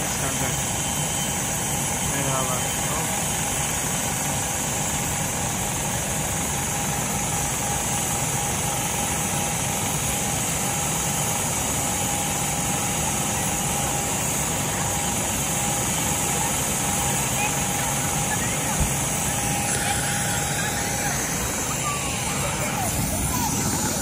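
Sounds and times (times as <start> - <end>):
mechanical drone with whine: 0.0 - 24.0.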